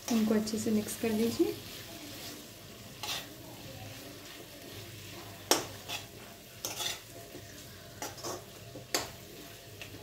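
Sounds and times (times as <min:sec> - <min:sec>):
metal spoon scraping a pan: 0:00.0 - 0:10.0.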